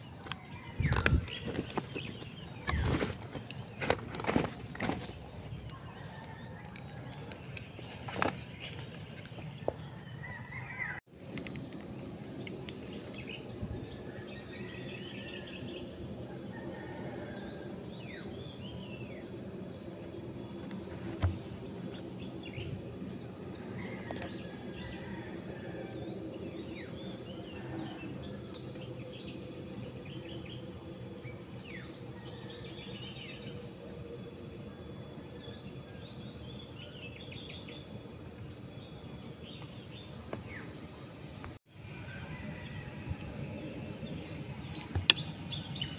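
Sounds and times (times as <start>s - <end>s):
insect chorus high trill: 0.0s - 45.9s.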